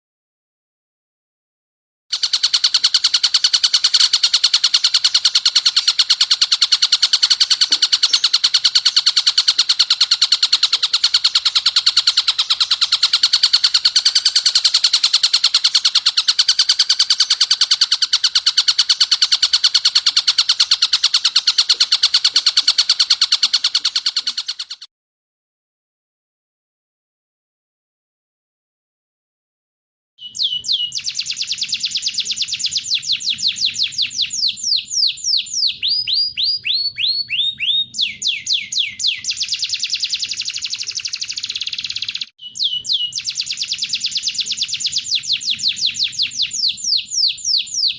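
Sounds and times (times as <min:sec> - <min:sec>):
bird calling sharp repeated notes: 0:02.1 - 0:24.9, 0:30.2 - 0:47.9.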